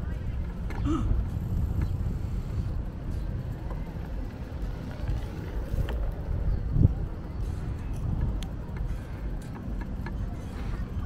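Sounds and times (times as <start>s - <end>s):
wind on microphone: 0.0s - 9.0s
bicycle tyres on brick path: 0.0s - 11.0s.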